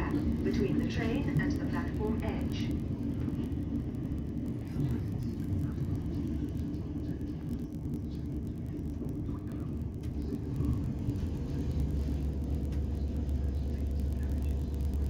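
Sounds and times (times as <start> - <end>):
low hum: 0.0 - 15.0
train carriage rumble: 0.0 - 15.0.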